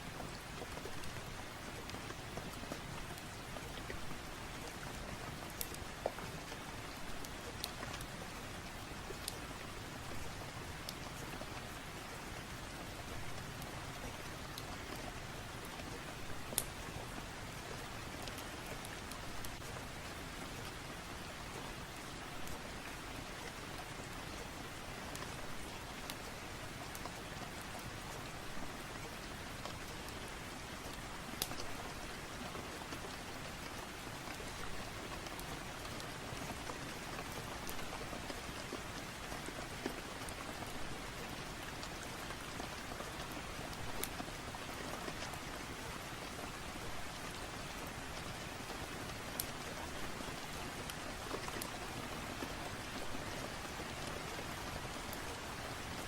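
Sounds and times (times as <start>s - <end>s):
sharp ticks of raindrops: 0.0s - 56.0s
steady rain falling: 0.0s - 56.0s.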